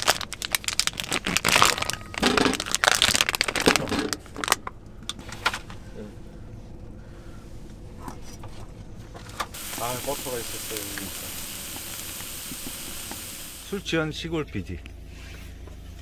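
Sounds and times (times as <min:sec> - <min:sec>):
packaging crinkling and rustling: 0:00.0 - 0:13.8
low steady background noise: 0:00.0 - 0:15.0.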